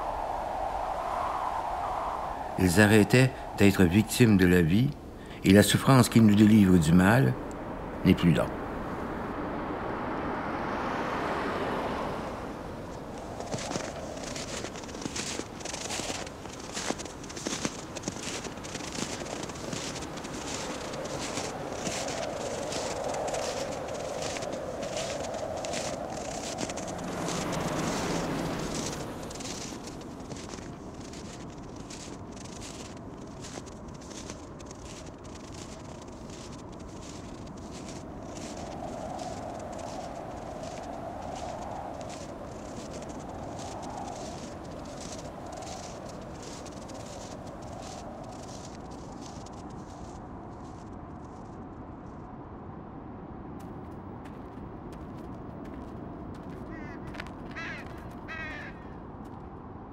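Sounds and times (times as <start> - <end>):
car passing on snow: 0.0 - 51.5, 53.6 - 58.9
wind blowing in gusts: 0.0 - 59.9.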